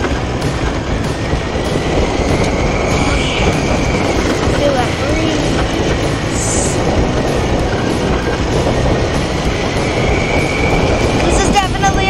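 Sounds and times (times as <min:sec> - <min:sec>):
atv engine: 0:00.0 - 0:12.0
rattling and rumble from bumpy ground: 0:00.0 - 0:12.0.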